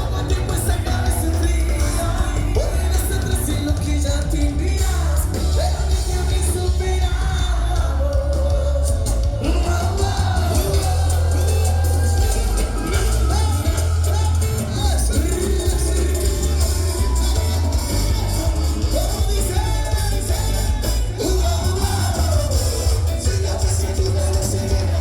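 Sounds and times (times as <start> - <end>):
heavy bass line: 0.0 - 25.0
live band music: 0.0 - 25.0
person singing: 0.0 - 25.0.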